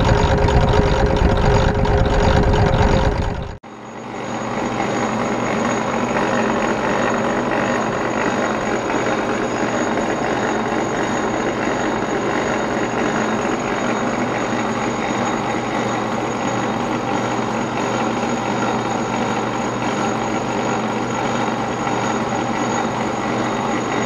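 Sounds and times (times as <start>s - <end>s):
honey extractor humming: 0.0s - 24.0s.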